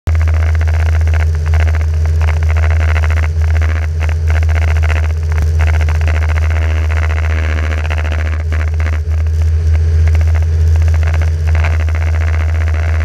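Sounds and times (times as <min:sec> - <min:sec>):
buzzing exhaust rattle: 0:00.0 - 0:13.0
engine and propeller drone: 0:00.1 - 0:13.0.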